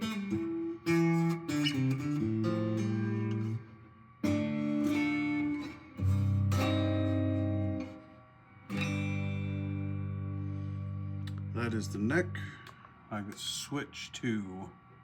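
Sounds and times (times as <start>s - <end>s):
clean electric guitar: 0.0s - 13.1s.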